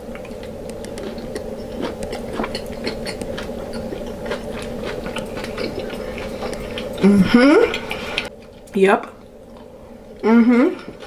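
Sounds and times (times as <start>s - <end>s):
low background hum: 0.0s - 11.0s
wet chewing sounds: 0.0s - 11.0s.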